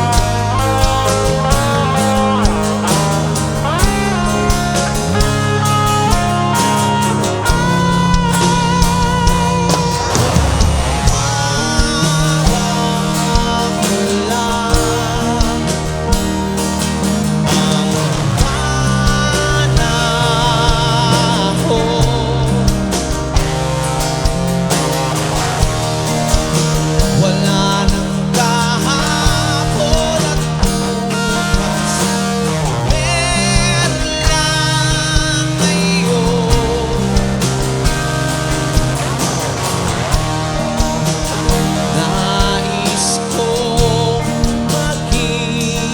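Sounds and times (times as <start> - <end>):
bass guitar: 0.0 - 45.9
drum hits: 0.0 - 45.9
electric guitar lead: 0.0 - 45.9
rock band playing: 0.0 - 45.9.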